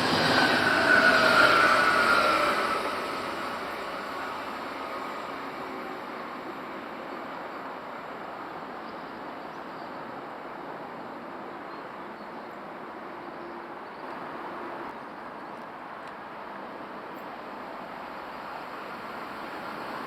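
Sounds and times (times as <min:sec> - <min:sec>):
train rolling on rails: 0:00.0 - 0:20.0.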